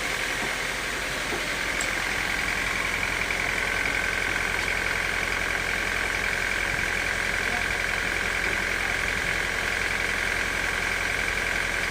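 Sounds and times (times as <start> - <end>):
high mechanical whine: 0.0 - 10.0
sawmill machinery drone: 0.0 - 11.9.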